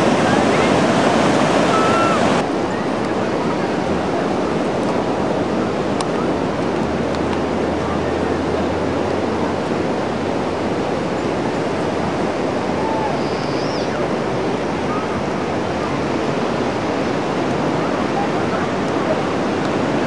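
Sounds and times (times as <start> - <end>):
ocean surf breaking on beach: 0.0 - 20.0
wind: 0.0 - 20.0.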